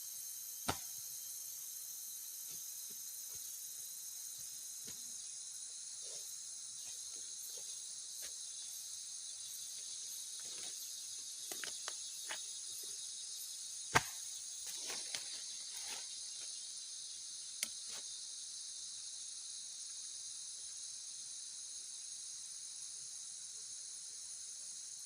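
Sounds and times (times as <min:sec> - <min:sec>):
insect chorus drone: 0:00.0 - 0:25.0
pulsing insect trill: 0:00.0 - 0:25.0.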